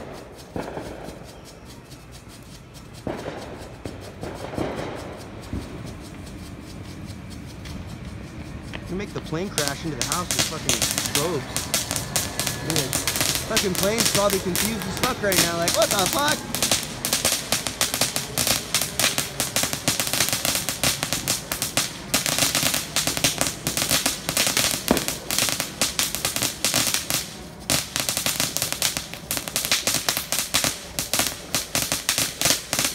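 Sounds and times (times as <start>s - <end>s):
firecrackers popping: 0.0s - 32.9s.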